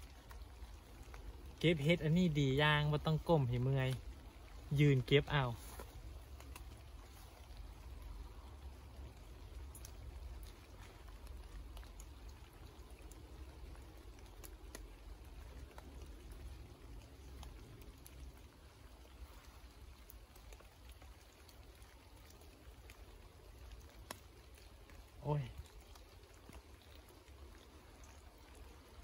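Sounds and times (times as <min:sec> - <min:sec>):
light rain patter: 0:00.0 - 0:29.0
water dripping: 0:00.0 - 0:29.0.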